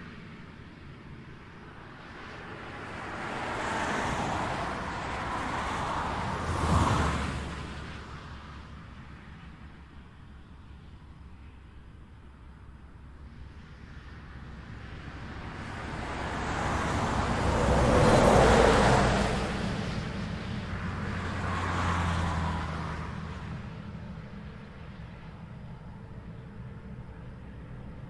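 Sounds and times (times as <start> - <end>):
distant traffic hum: 0.0 - 28.0
vehicles passing on highway: 0.0 - 28.0.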